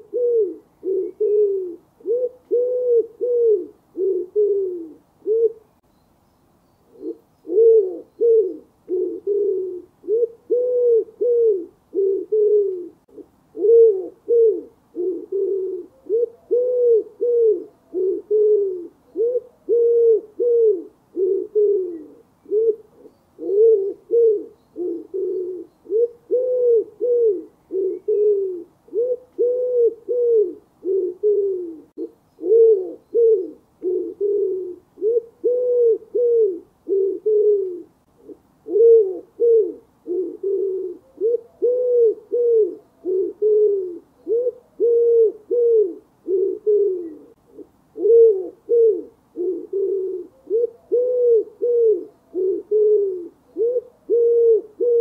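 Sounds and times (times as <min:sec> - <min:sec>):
wood pigeon cooing: 0:00.0 - 0:05.8, 0:06.9 - 0:55.0.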